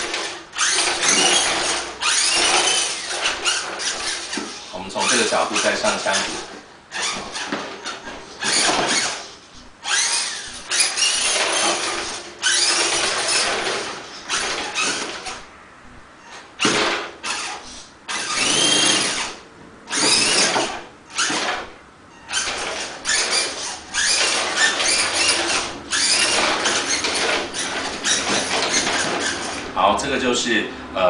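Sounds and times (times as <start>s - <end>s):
toy truck electric motor whining: 0.0s - 15.5s, 16.2s - 29.8s.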